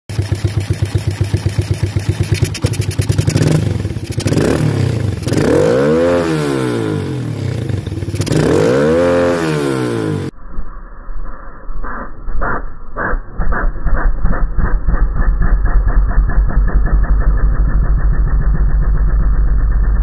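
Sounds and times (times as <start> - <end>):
motorcycle engine idling and revving: 0.0 - 10.4, 13.3 - 20.0.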